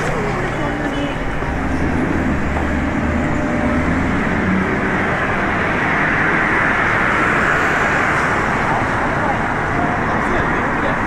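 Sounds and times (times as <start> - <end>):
city street traffic: 0.0 - 11.0
vehicle passing: 0.0 - 11.0.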